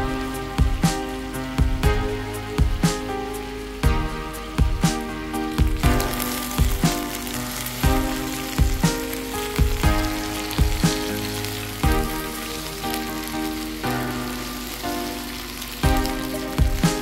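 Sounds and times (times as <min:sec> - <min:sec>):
background music with drum beat: 0:00.0 - 0:17.0
chicken wings sizzling in oil: 0:00.0 - 0:17.0.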